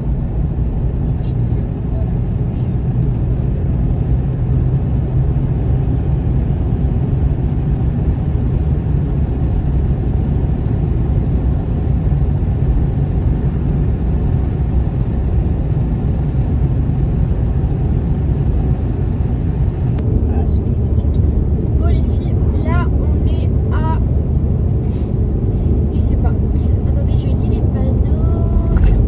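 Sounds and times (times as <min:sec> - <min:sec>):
car driving interior rumble: 0:00.0 - 0:29.0.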